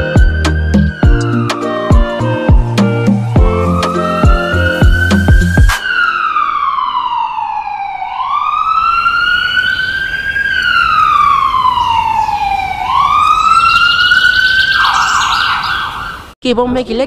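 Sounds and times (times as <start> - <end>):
emergency siren wailing: 0.0 - 16.4.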